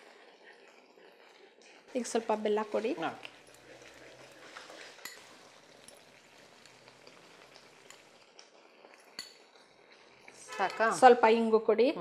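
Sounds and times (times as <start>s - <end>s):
thick food bubbling in a pan: 0.0s - 12.0s.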